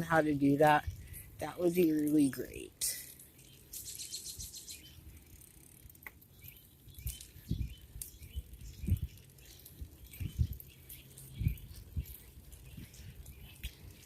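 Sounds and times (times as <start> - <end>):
bicycle ticking and rattling: 1.9 - 14.0.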